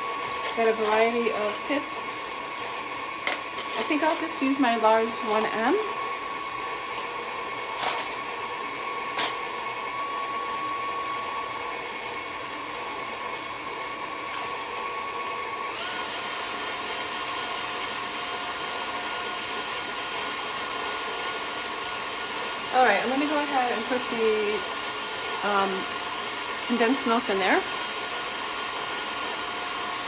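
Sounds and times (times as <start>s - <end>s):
stand mixer motor whining: 0.0s - 30.0s.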